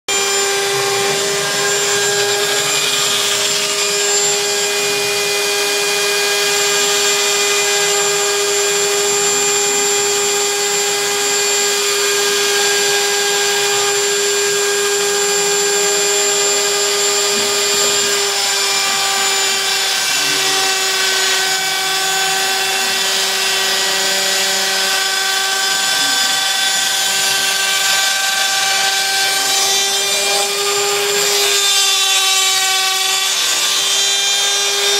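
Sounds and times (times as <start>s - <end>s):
spindle motor whining: 0.1s - 34.9s.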